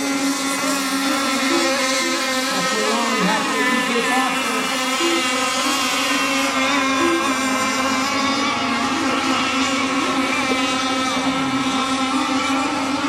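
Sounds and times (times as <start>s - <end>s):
model boat engines buzzing: 0.0s - 13.0s.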